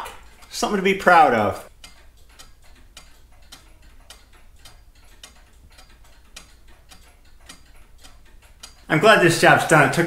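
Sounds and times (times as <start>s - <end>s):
pendulum clock ticking: 0.0s - 10.0s.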